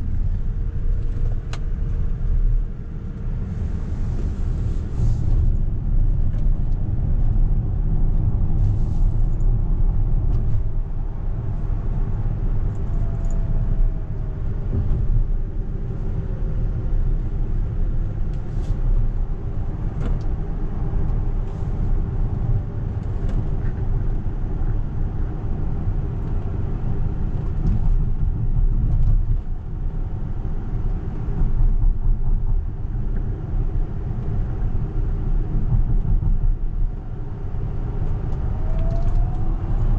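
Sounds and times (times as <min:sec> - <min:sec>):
road and tyre rumble in cabin: 0:00.0 - 0:39.9.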